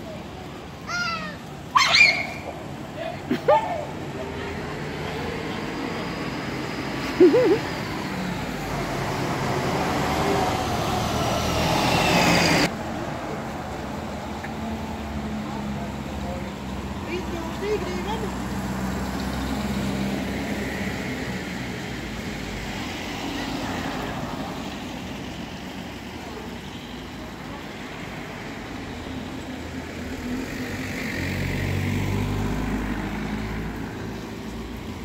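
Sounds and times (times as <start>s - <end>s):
car traffic on a street: 0.0s - 35.0s.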